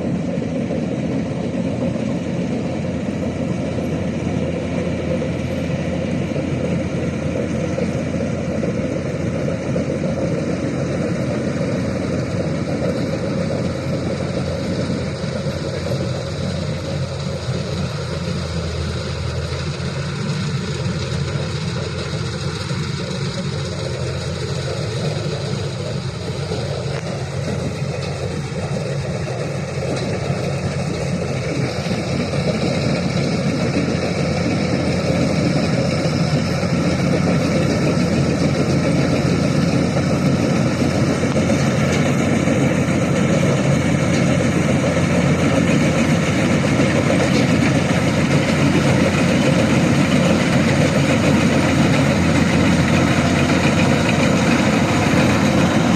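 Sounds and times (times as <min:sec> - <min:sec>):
combine harvester engine running: 0:00.0 - 0:55.9.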